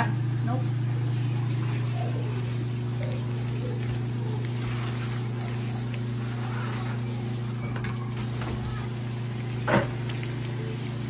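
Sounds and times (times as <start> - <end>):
shower water spraying and splashing: 0.0 - 11.0.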